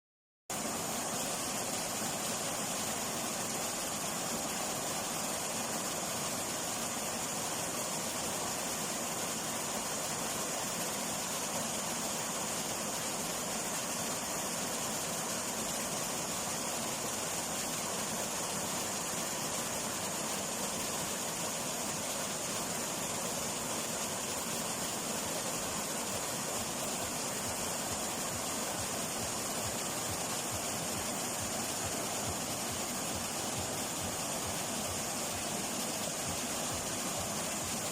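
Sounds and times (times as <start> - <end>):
stream running over rocks: 0.5 - 37.9.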